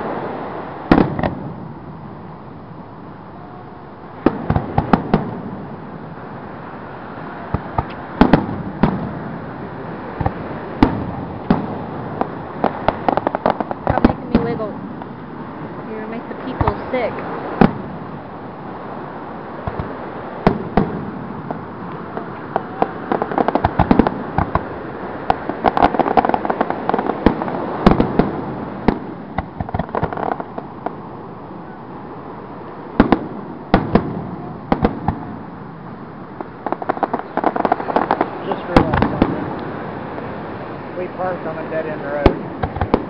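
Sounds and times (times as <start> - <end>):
fireworks bangs and crackles: 0.0 - 2.4, 3.2 - 43.0
steady background noise: 0.0 - 43.0.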